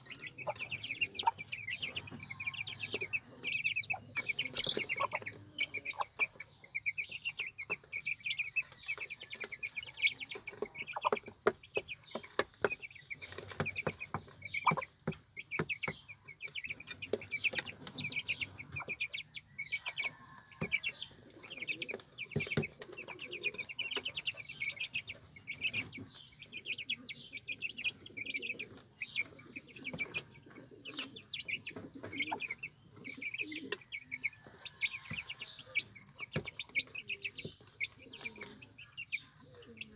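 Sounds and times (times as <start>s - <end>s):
beaks pecking on concrete: 0.0s - 39.9s
chicks peeping: 0.0s - 39.9s
hen clucking: 0.0s - 39.9s.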